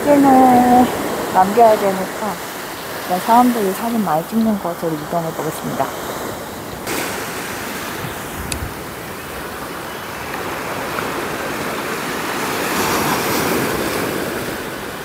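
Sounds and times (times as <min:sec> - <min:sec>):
surf breaking on a beach: 0:00.0 - 0:15.0
wind buffeting microphone: 0:00.0 - 0:15.0.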